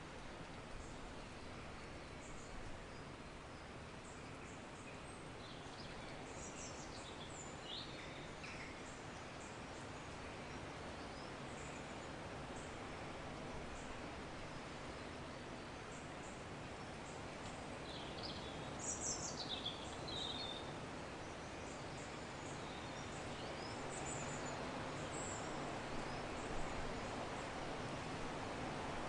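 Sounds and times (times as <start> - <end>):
soft rushing hiss: 0.0 - 29.0.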